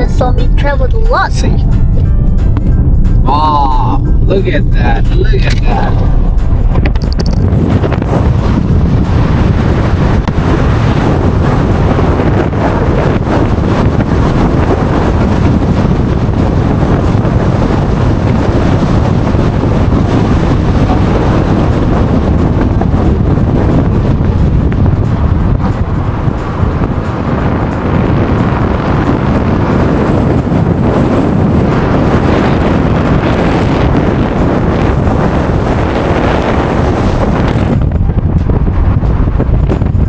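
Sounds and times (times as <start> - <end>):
moving car rumble: 0.0 - 40.0
wind buffeting microphone: 0.0 - 40.0.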